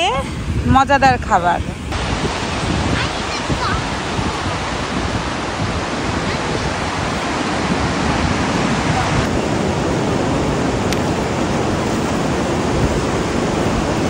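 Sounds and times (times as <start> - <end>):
ocean surf breaking on beach: 1.7 - 14.0.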